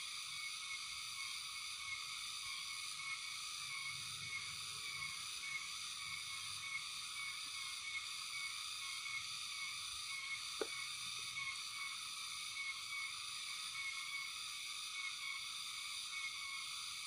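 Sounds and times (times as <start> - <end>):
frogs calling: 0.6 - 17.0.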